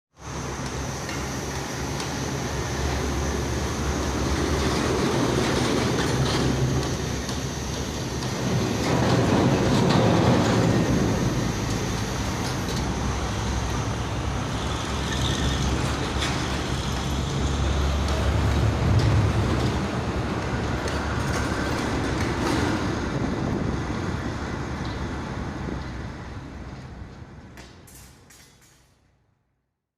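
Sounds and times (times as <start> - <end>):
excavator diesel engine rumbling: 0.2 - 27.1.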